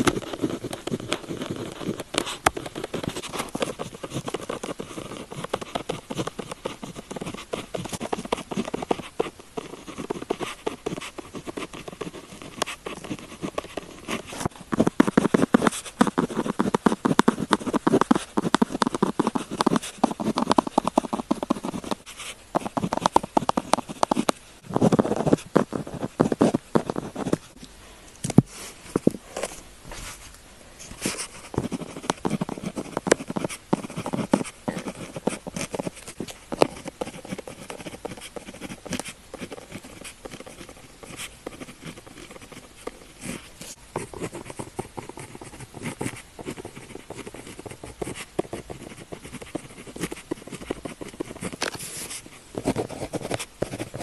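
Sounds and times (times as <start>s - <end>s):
pen scratching on paper: 0.0s - 27.6s, 31.0s - 54.0s.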